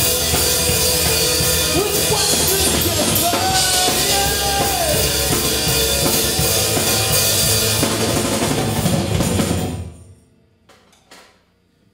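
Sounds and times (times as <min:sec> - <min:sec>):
bass guitar: 0:00.0 - 0:10.1
drum kit: 0:00.0 - 0:10.1.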